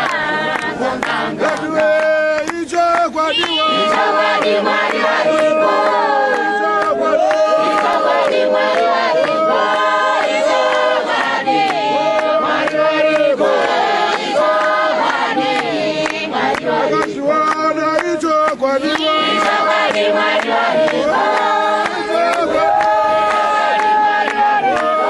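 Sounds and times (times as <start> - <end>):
congregation singing a hymn: 0.0 - 25.0
sharp hand claps: 0.0 - 25.0.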